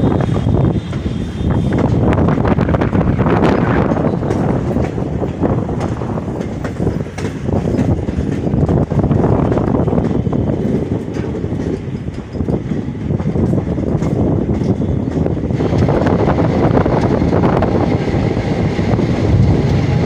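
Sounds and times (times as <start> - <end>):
passenger train running noise: 0.0 - 20.0
wind buffeting microphone: 0.0 - 20.0.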